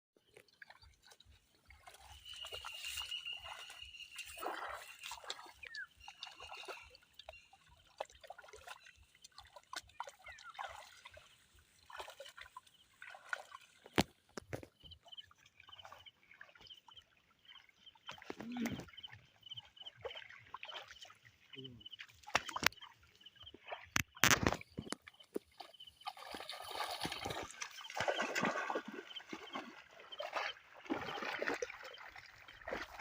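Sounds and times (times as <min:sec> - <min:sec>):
pond water sloshing and splashing: 0:00.2 - 0:33.0.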